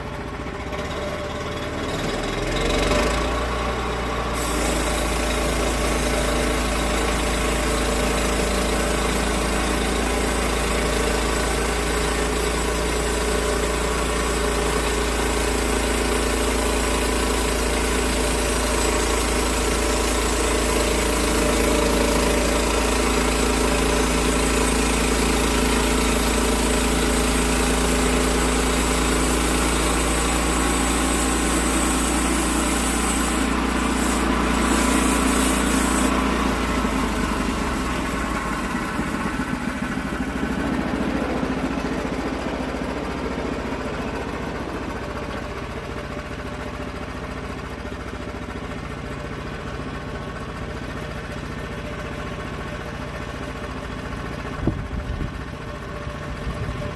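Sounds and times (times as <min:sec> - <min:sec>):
gasoline engine running: 0:00.0 - 0:56.9.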